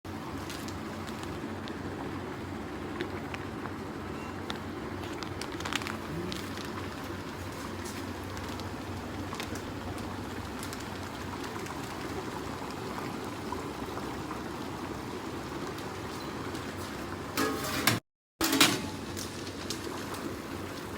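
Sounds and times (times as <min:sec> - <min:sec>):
water boiling and bubbling: 0:00.1 - 0:20.9.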